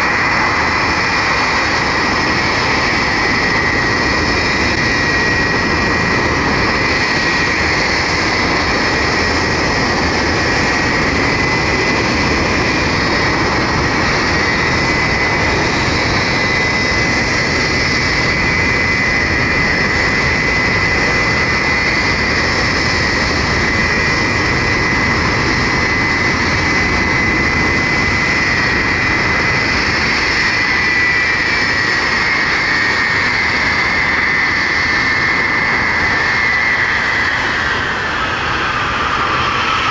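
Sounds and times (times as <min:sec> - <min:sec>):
high engine whine: 0:00.0 - 0:39.9
jet engines running: 0:00.0 - 0:39.9.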